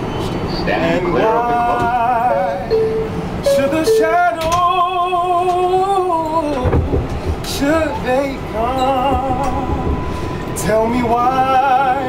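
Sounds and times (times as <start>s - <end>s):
man singing unaccompanied: 0.7s - 6.8s, 7.5s - 12.0s.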